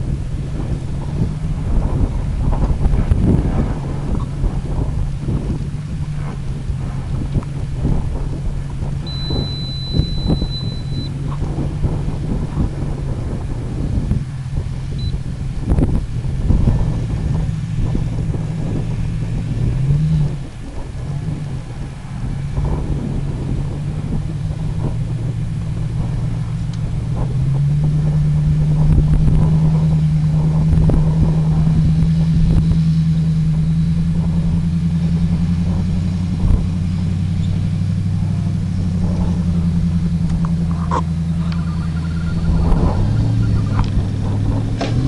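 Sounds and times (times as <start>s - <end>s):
off-road vehicle engine under load: 0.0s - 45.0s.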